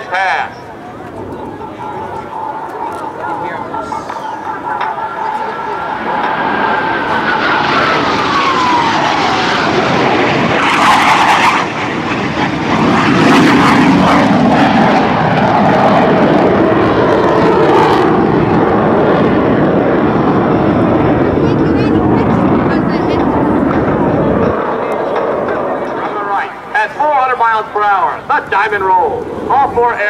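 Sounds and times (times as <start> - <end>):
jet engine roaring past: 0.0 - 30.0.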